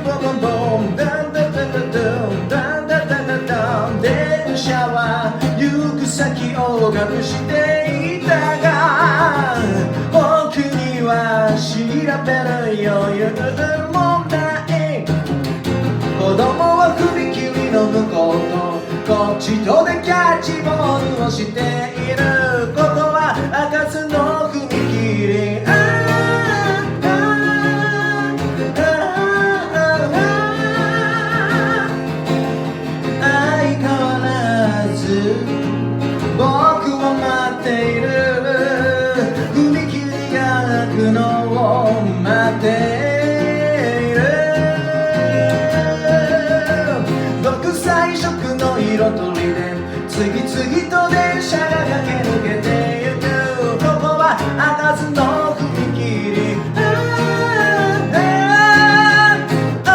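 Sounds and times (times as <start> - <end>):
person singing: 0.0 - 15.3, 16.0 - 59.9
acoustic guitar: 0.0 - 59.9.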